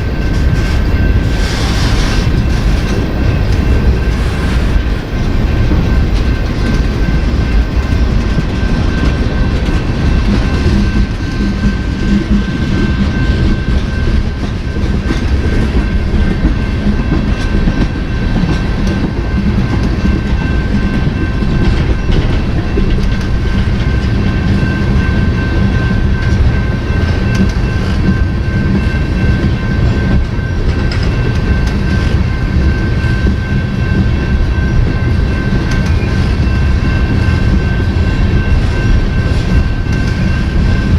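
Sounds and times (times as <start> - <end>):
high ringing tone: 0.0 - 40.9
train cars rumbling past: 0.0 - 40.9
wheels clicking over rail joints: 0.0 - 40.9.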